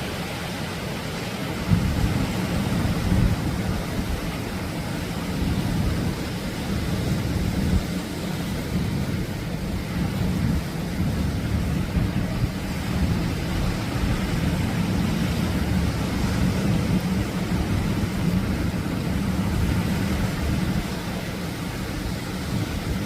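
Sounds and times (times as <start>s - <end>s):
surf washing on beach: 0.0s - 23.0s
wind rumbling on microphone: 0.0s - 23.0s.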